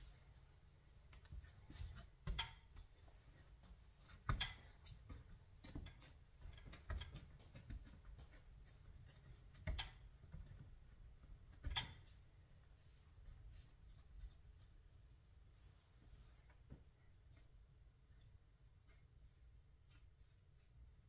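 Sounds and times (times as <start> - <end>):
hands kneading bread dough: 0.0 - 21.0.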